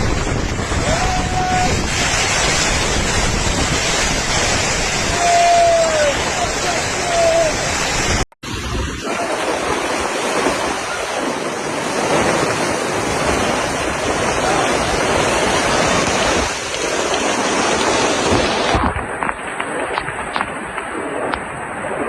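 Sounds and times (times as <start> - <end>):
strong wind buffeting microphone: 0.0 - 22.0.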